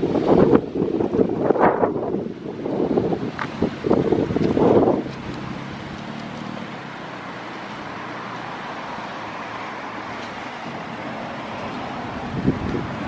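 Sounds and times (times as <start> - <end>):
road traffic: 0.0 - 13.0
wind: 0.0 - 13.0.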